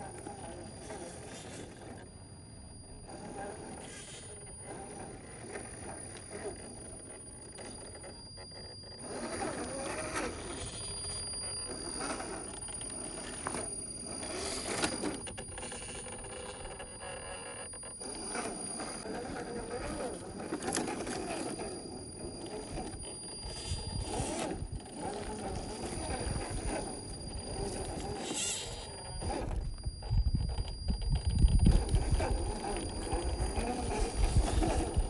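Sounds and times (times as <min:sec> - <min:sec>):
electric motor and gears whining: 0:00.0 - 0:35.0.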